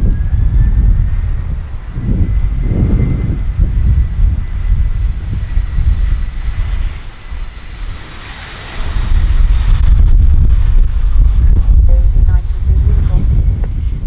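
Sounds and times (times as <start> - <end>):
jet airliner engines: 0.0 - 14.0
wind buffeting microphone: 0.0 - 14.0.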